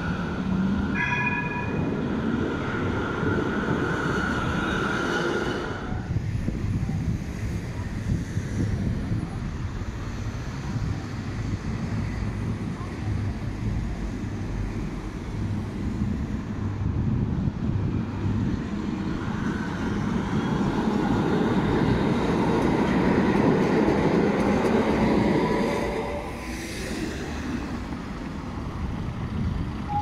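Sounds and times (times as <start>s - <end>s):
tram rumbling on track: 0.0s - 30.0s.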